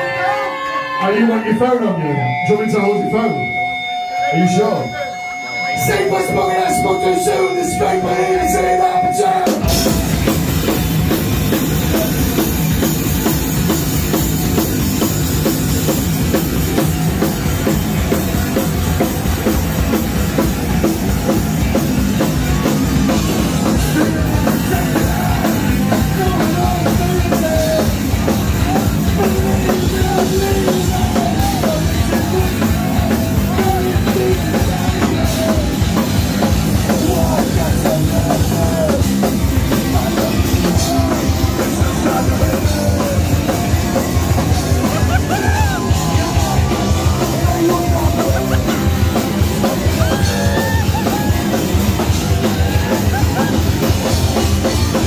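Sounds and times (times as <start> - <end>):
rock band playing live: 0.0 - 55.0
drum kit: 5.2 - 55.0.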